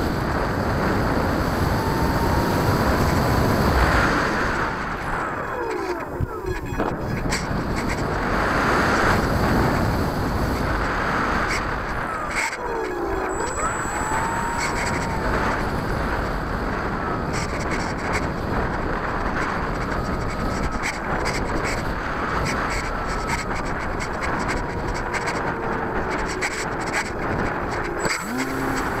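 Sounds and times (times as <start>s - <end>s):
propeller motor whine: 0.0s - 29.0s
wind rushing over microphone: 0.0s - 29.0s.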